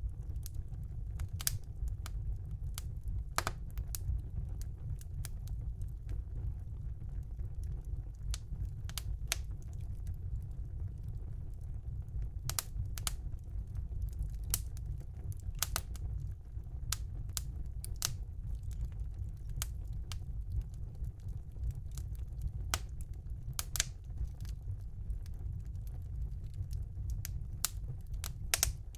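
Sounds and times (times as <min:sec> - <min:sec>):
burning logs crackling and popping: 0:00.0 - 0:28.9
low rumble of fire: 0:00.0 - 0:28.9.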